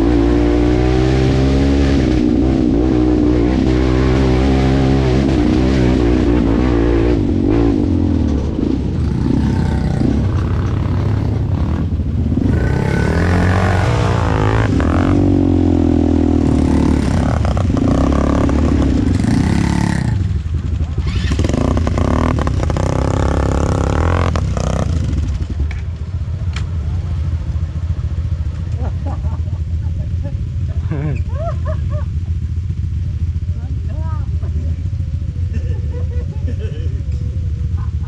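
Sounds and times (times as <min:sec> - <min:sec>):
atv engine revving: 0:00.0 - 0:38.0.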